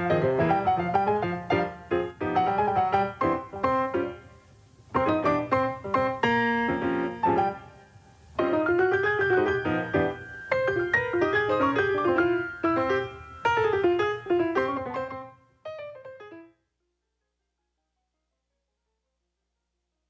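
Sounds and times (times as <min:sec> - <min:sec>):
piano melody: 0:00.0 - 0:16.5.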